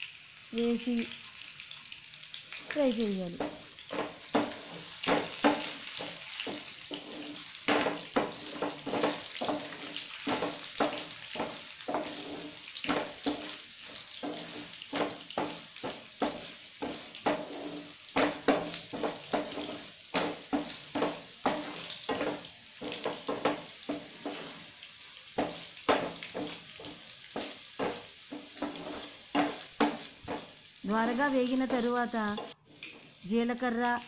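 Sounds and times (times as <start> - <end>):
food sizzling in hot oil: 0.0 - 34.0
wooden spatula scraping a pan: 3.4 - 33.1.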